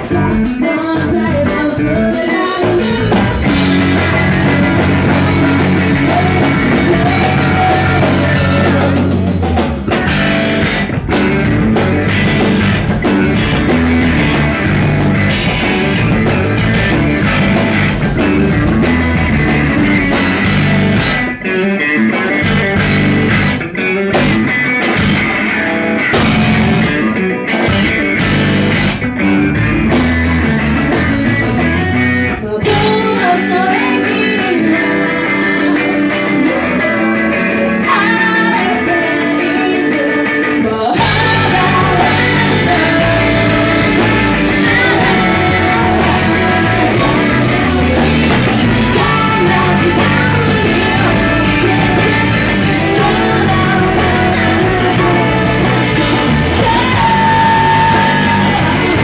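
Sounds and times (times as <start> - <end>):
bass guitar: 0.0 - 59.0
drums: 0.0 - 59.0
electric guitars: 0.0 - 59.0.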